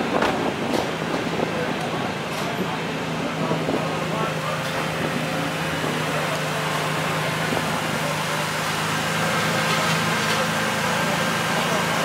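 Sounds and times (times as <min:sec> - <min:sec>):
turbocharged car engine idling: 0:00.0 - 0:12.0.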